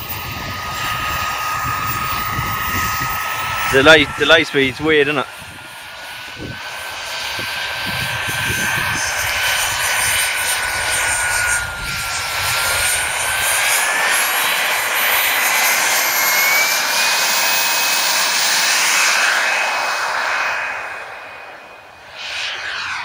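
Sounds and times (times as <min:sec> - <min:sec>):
exhaust rush: 0:00.0 - 0:23.0
model jet turbine whining: 0:00.0 - 0:23.0.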